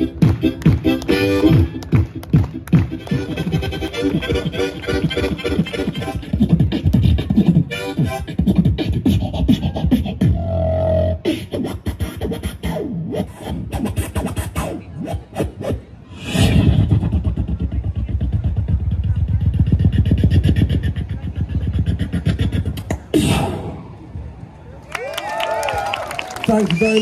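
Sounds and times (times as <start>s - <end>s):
beatboxing through speaker: 0.0s - 24.0s.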